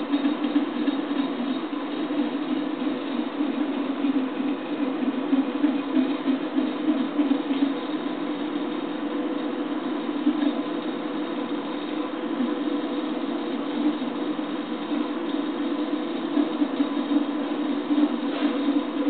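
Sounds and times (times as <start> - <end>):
stepper motors humming: 0.0 - 19.0.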